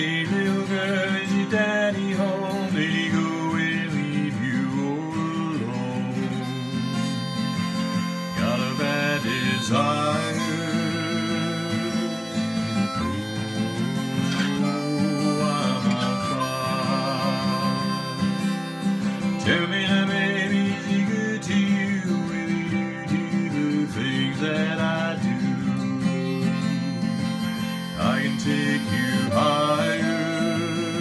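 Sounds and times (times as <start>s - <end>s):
acoustic guitar strumming: 0.0s - 31.0s
harmonica melody: 0.0s - 31.0s
man singing: 0.0s - 31.0s.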